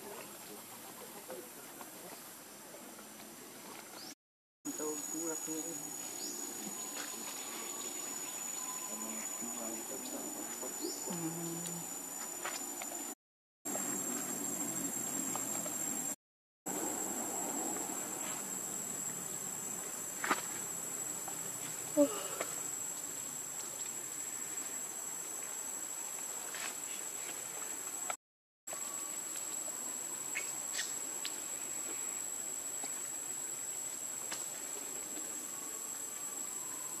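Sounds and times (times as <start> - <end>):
insects droning: 4.7 - 37.0.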